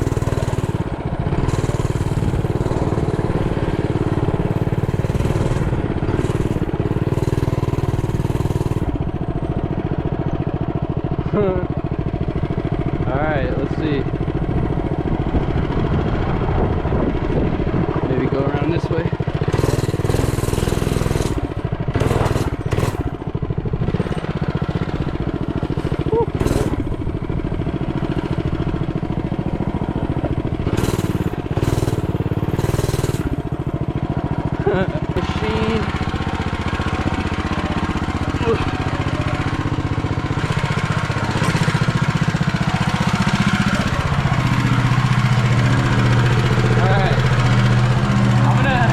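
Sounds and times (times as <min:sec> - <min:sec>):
mini bike engine running: 0:00.0 - 0:48.9.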